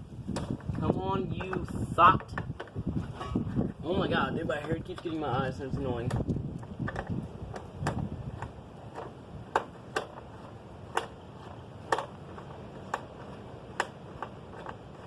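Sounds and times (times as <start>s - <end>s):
tools clicking and tapping: 1.4s - 3.3s, 4.6s - 15.0s.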